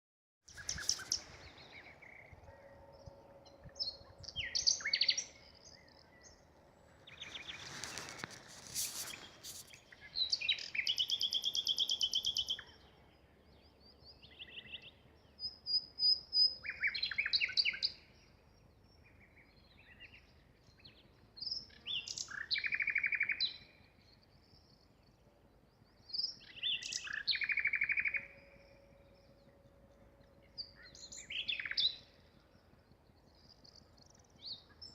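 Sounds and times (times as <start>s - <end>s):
nightingale singing: 0.5s - 24.9s, 25.7s - 34.9s.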